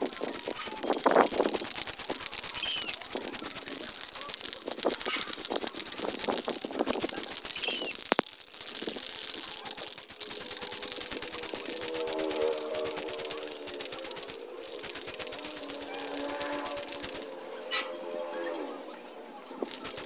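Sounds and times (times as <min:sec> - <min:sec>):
spray paint can hissing: 0:00.0 - 0:17.6, 0:19.6 - 0:20.0
bird chirping: 0:00.2 - 0:19.1.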